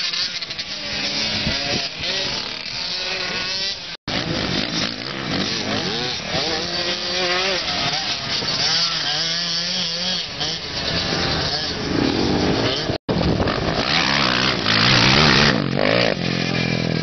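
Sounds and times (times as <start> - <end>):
dirt bike engine revving: 0.0 - 17.0
quad engines revving: 0.0 - 17.0.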